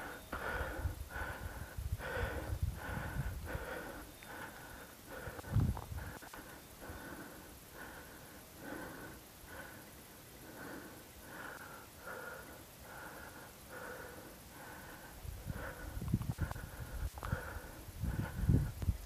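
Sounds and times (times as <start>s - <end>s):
person breathing hard: 0.0s - 18.8s.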